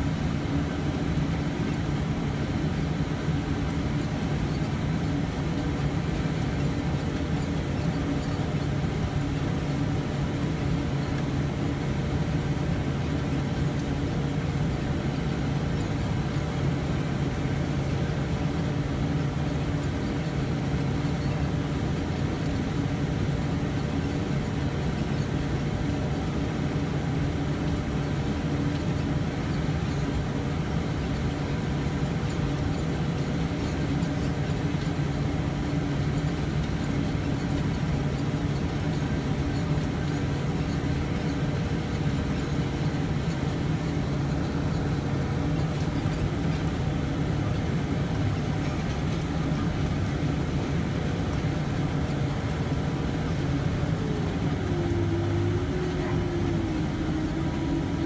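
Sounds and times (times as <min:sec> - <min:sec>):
baler mechanical hum and rattle: 0:00.0 - 0:58.0
tractor engine running: 0:00.0 - 0:58.0.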